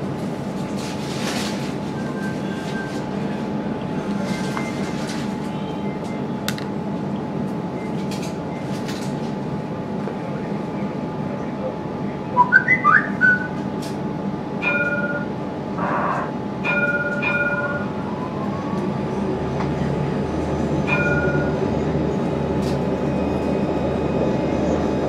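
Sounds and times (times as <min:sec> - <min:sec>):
tram running rumble: 0:00.0 - 0:25.0.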